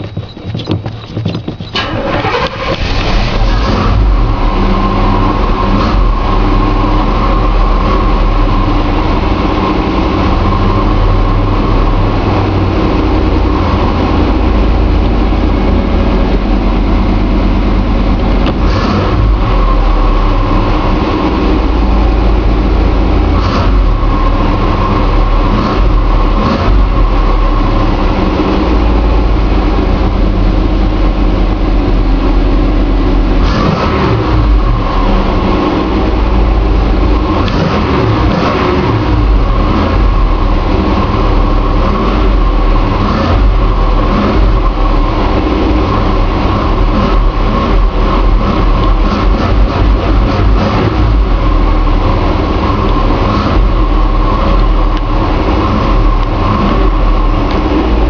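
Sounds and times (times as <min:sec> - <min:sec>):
engine revs: 0:00.0 - 0:58.0
loud engine running: 0:00.0 - 0:58.0.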